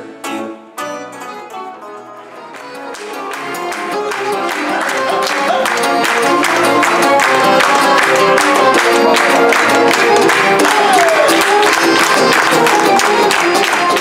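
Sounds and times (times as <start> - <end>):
accordion: 0.0 - 14.0
violin: 0.0 - 14.0.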